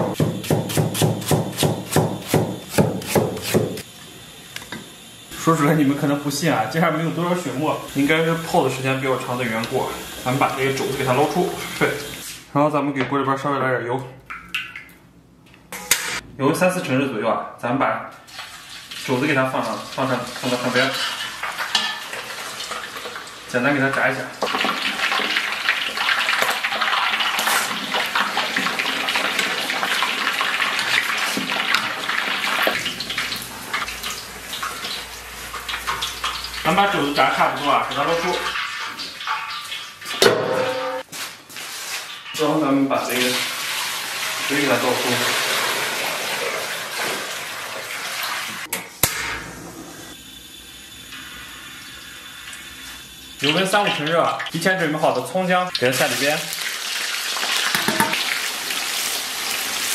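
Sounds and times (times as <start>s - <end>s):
meat deep-frying in hot oil: 0.0s - 12.4s, 18.3s - 40.2s, 41.5s - 48.7s, 50.1s - 59.9s.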